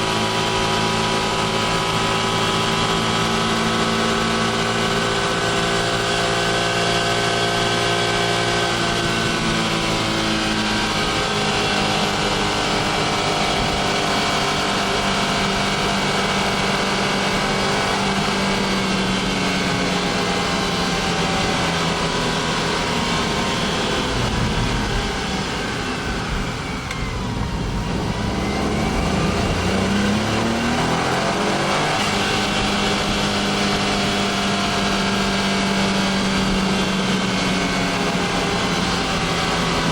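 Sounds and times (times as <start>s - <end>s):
small car engine running: 0.0s - 39.9s.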